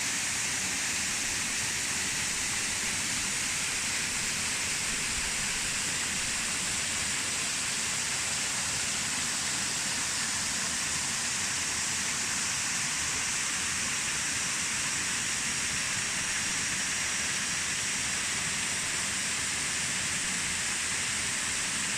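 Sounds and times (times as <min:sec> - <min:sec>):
waterfall rushing and splashing: 0:00.0 - 0:21.9.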